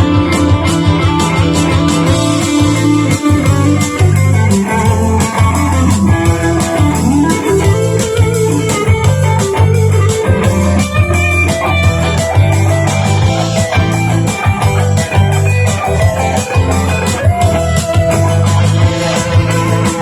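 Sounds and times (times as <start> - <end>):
overdriven electric guitar lead: 0.0 - 20.0
rock backing track: 0.0 - 20.0.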